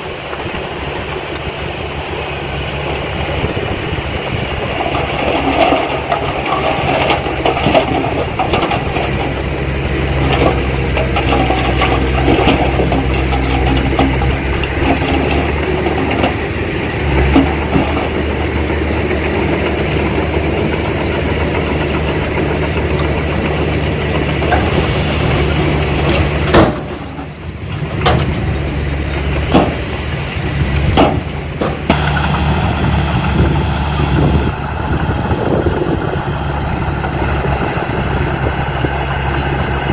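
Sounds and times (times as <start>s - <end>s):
heavy machinery diesel engine: 0.0s - 39.9s
metal clanks and knocks: 4.6s - 39.9s.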